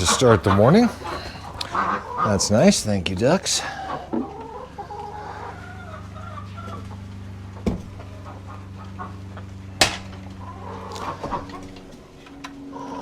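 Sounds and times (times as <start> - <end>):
chickens clucking: 0.0 - 13.0
steady low hum: 0.0 - 13.0.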